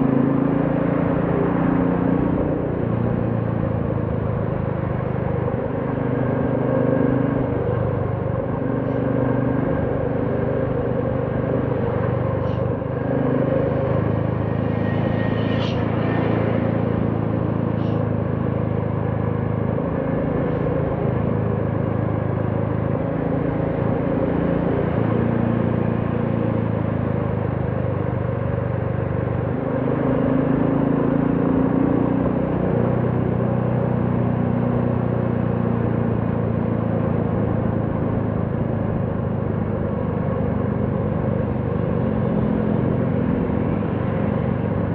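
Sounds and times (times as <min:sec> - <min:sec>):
road noise: 0:00.0 - 0:44.9.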